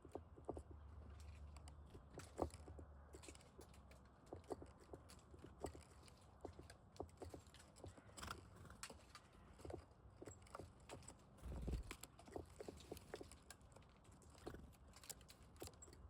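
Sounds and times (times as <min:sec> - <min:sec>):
birds pecking seeds: 0:00.0 - 0:16.0.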